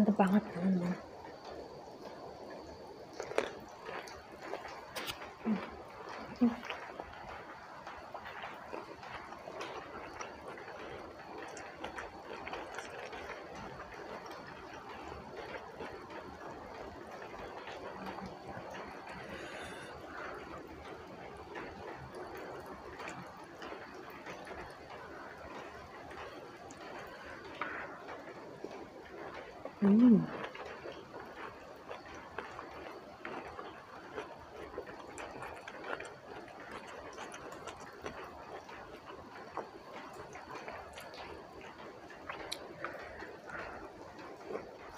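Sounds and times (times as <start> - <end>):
person chewing with wet mouth sounds: 0.0 - 44.9.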